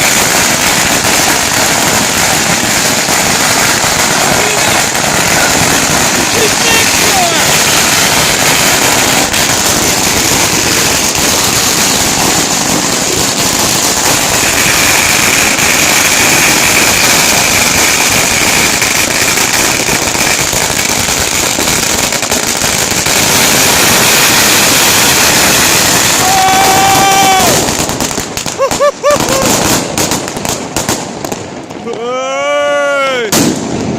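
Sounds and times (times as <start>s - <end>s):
firecrackers crackling: 0.0s - 33.9s.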